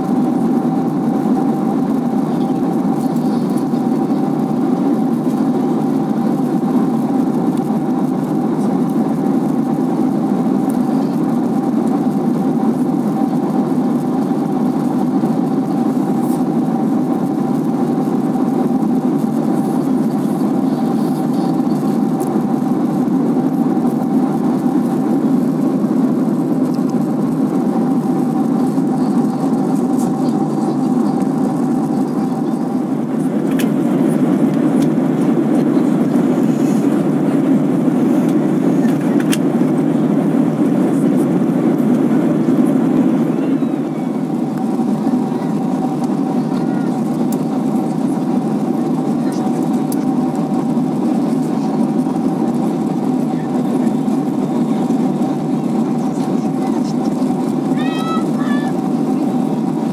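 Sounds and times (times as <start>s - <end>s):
airliner cabin engine rush: 0.0s - 59.9s.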